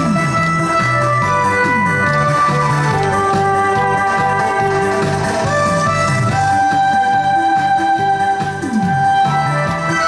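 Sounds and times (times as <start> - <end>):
backing track with pulsing bass: 0.0 - 10.0
wind synthesizer melody: 0.0 - 10.0.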